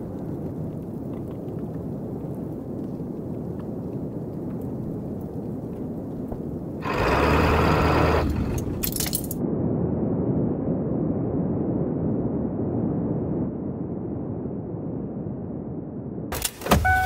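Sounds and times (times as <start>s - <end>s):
low rumble of wind: 0.0s - 17.0s.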